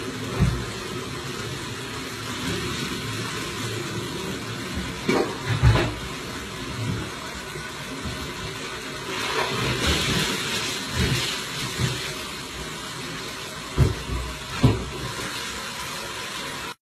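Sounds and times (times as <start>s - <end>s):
water running into a sink: 0.0s - 16.8s.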